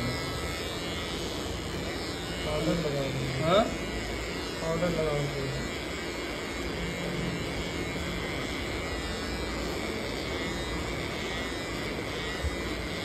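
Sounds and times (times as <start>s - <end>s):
electric clipper running: 0.0s - 13.0s.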